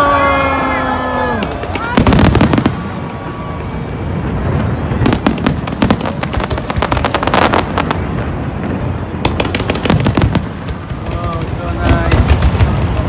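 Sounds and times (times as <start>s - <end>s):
fireworks crackling pops: 1.2s - 13.0s.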